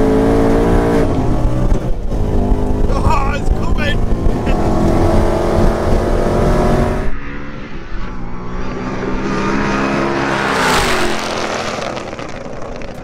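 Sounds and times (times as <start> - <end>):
engine at full throttle in cabin: 0.0 - 11.2
racing cars passing by: 0.0 - 13.0.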